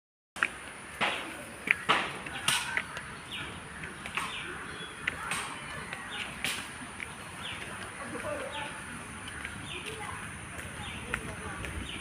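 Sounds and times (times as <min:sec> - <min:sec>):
footsteps on wet road: 0:00.4 - 0:12.0.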